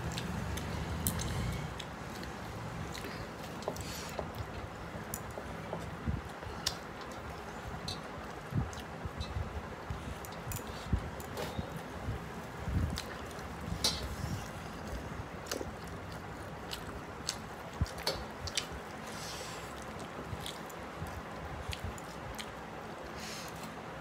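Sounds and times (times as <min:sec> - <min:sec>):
wet chewing: 0:00.0 - 0:09.3, 0:12.7 - 0:23.8.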